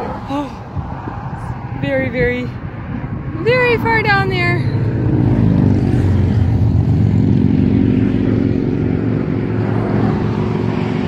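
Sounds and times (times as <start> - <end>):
tyre and road noise: 0.0 - 11.0
vehicle engine hum: 0.0 - 11.0.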